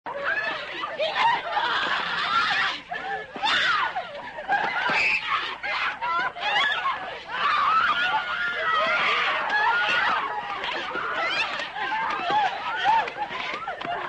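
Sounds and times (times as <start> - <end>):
people calling out: 0.1 - 14.0
people laughing: 0.1 - 14.0.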